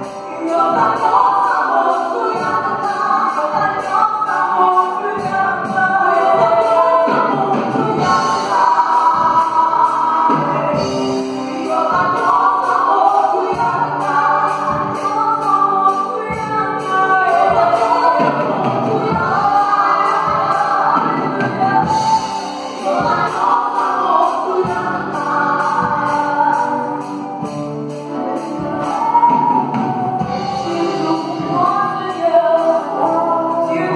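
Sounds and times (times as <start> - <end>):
drums keeping a steady beat: 0.0 - 33.9
keyboard: 0.0 - 33.9
singers in harmony: 0.0 - 33.9.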